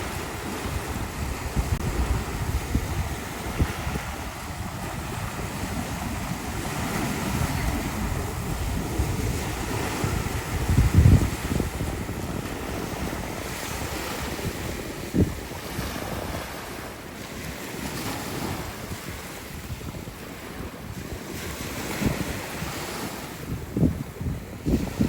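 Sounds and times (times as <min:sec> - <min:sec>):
gusts thumping microphone: 0:00.0 - 0:25.0
rough sea surf: 0:00.0 - 0:25.0
wind rushing over microphone: 0:00.0 - 0:25.0.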